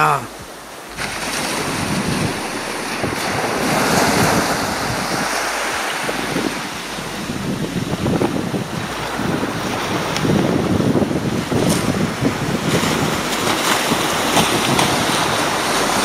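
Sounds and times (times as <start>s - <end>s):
small waves breaking on sand: 0.0s - 16.0s
wind gusting on microphone: 0.0s - 16.0s.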